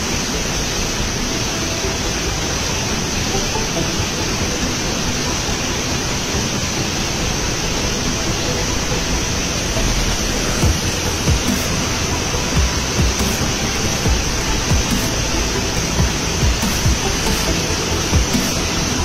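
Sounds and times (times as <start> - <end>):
water rushing over a weir: 0.0 - 19.0.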